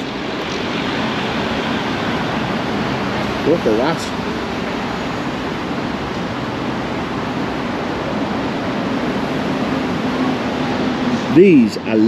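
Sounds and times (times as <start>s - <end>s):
air conditioning fan hiss: 0.0s - 12.0s.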